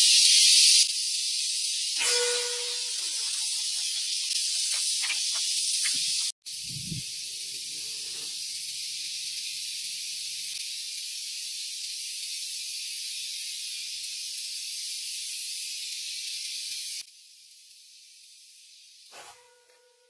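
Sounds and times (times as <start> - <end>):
forest insects droning: 0.0 - 20.0.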